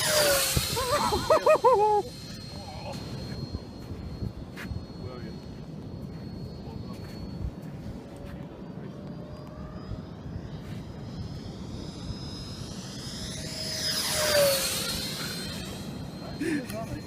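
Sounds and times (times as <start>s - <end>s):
model jet motor whine: 0.0s - 17.0s.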